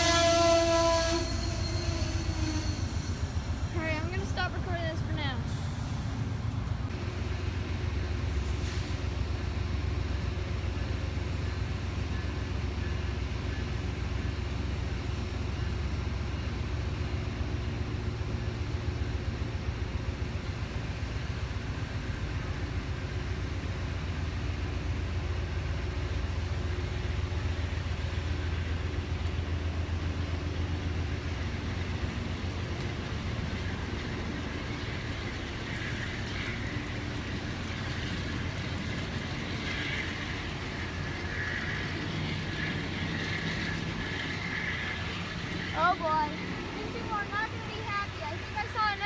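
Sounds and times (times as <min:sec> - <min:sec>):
passenger train rolling past: 0:00.0 - 0:49.0.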